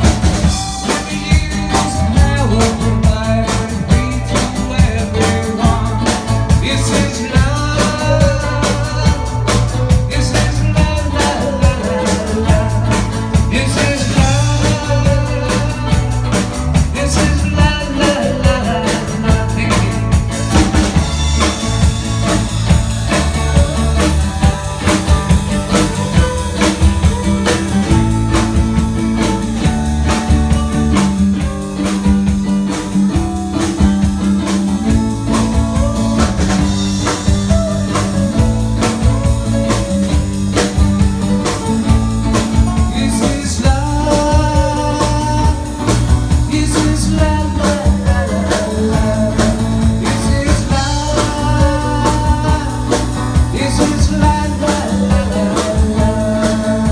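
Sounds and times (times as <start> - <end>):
lead guitar bending line: 0.0 - 56.9
live blues-rock band: 0.0 - 56.9.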